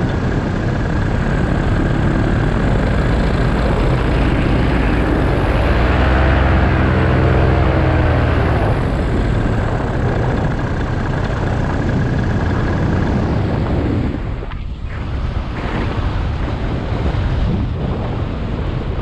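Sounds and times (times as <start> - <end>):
paramotor engine and propeller: 0.0 - 19.0.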